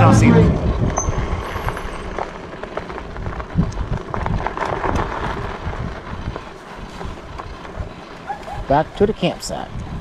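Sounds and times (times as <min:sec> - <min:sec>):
bicycle tyres rolling over gravel: 0:00.0 - 0:10.0
wind rumbling on microphone: 0:00.0 - 0:10.0.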